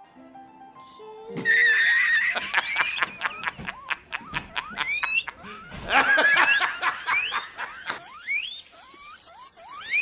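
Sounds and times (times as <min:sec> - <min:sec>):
guinea pig squealing: 0:01.4 - 0:10.0.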